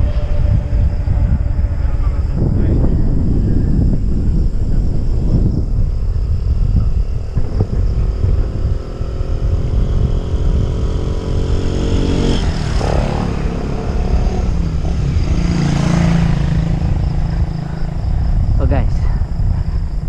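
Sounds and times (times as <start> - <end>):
motorcycle engine passing: 0.0 - 4.3, 6.5 - 18.6
traffic rumble: 0.0 - 20.0.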